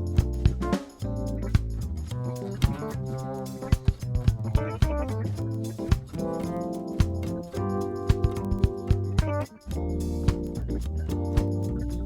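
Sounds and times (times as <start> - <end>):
instrumental jazz-funk track: 0.0 - 12.0.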